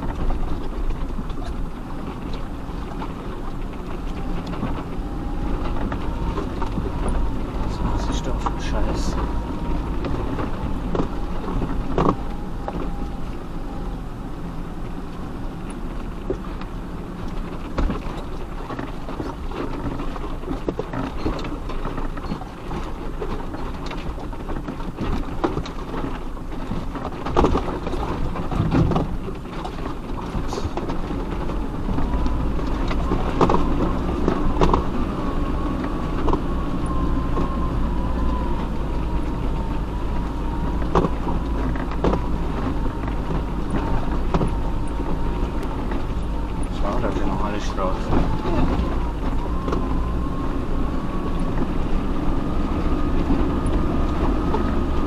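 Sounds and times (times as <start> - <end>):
vehicle engine running low: 0.0 - 55.0.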